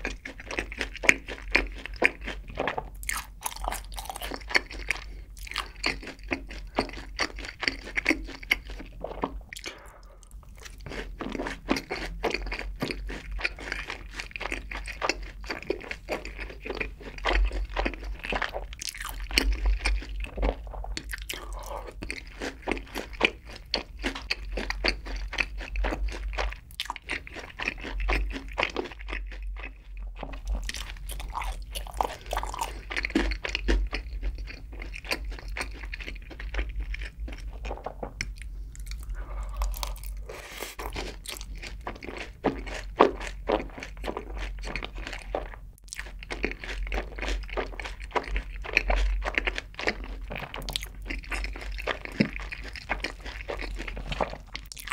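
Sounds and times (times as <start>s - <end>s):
crunchy chewing of fried chicken: 0.0s - 54.9s.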